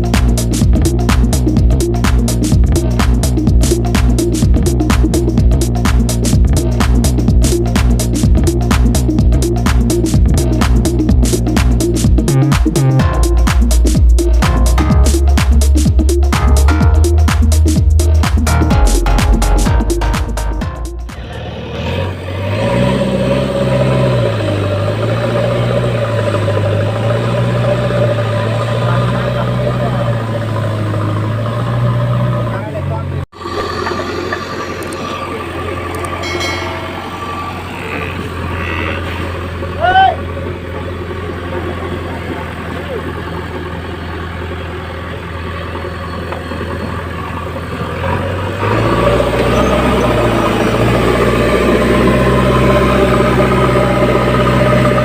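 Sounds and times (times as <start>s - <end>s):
diesel engine rumbling: 0.0s - 55.0s.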